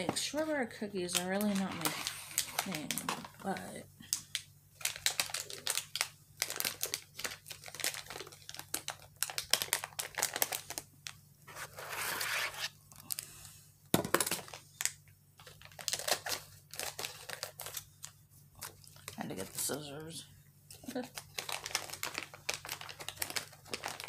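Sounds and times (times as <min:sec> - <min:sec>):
crinkly wrapper crackling: 0:01.1 - 0:11.9, 0:14.4 - 0:20.0, 0:20.7 - 0:24.0.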